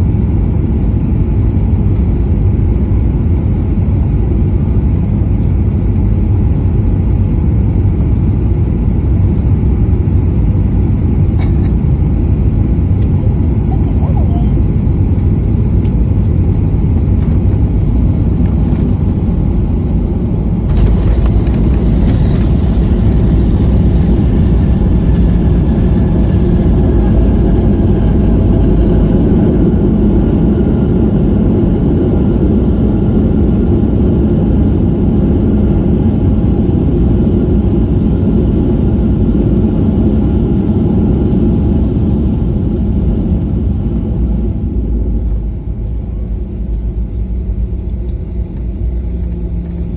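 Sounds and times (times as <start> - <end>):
airliner landing rumble: 0.0 - 49.9.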